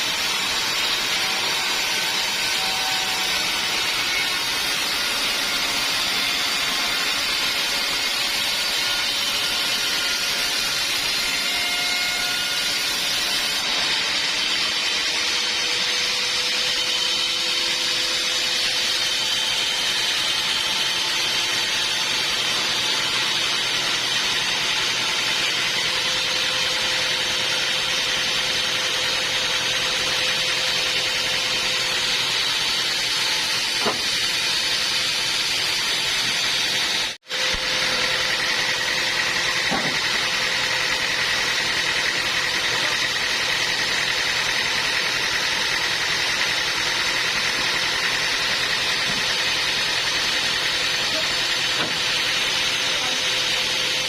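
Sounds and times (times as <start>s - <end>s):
bandsaw running: 0.0s - 54.0s.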